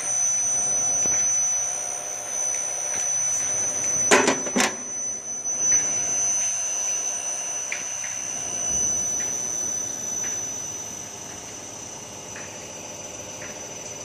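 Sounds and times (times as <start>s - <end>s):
drilling machine whine and hum: 0.0s - 14.0s.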